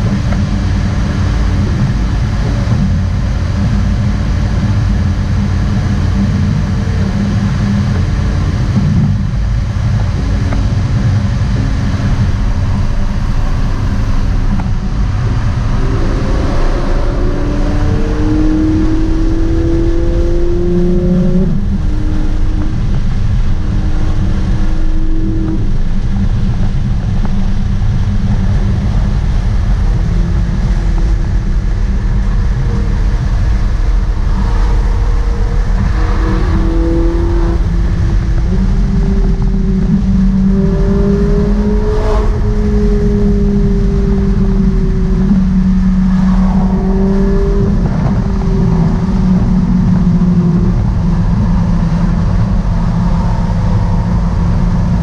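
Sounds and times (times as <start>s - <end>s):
car engine cruising: 0.0s - 55.0s
road noise: 0.0s - 55.0s.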